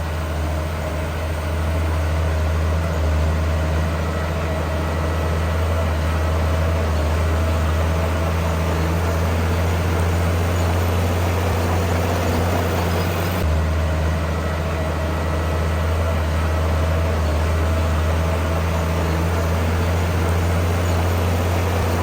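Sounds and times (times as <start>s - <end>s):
heavy diesel engine humming: 0.0s - 22.0s.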